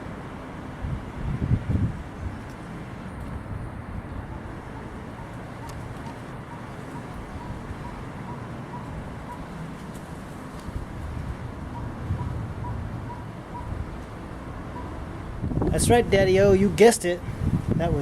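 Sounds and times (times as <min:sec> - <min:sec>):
city traffic hum: 0:00.0 - 0:18.0
wind buffeting microphone: 0:00.0 - 0:18.0.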